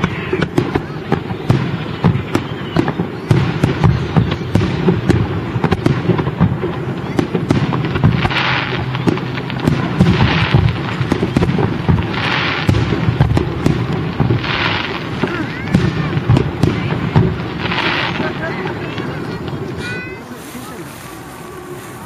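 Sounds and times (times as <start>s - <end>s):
continuous low rumble: 0.0s - 22.0s
fireworks bangs and booms: 0.0s - 22.0s.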